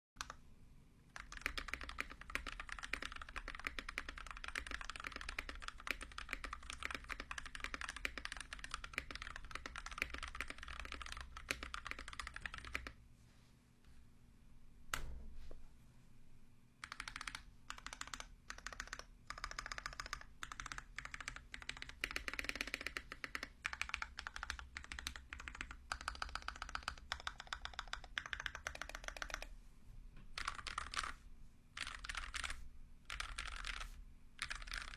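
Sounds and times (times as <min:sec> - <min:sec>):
fast typing on mechanical keyboard: 0:01.2 - 0:13.0, 0:16.8 - 0:29.5, 0:30.4 - 0:31.1, 0:31.8 - 0:34.9.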